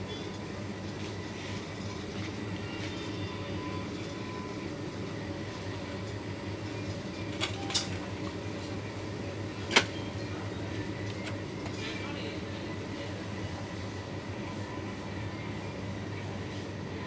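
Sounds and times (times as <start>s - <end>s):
machinery and air handling hum: 0.0s - 17.0s.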